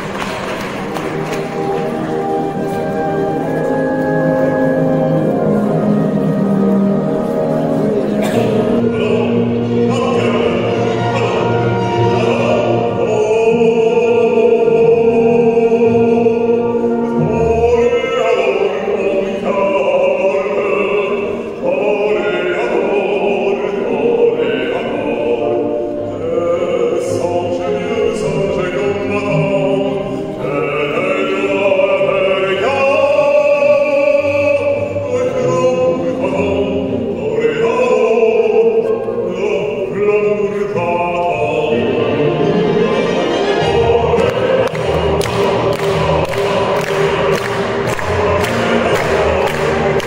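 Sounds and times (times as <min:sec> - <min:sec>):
opera-style choral singing: 0:00.0 - 0:50.0.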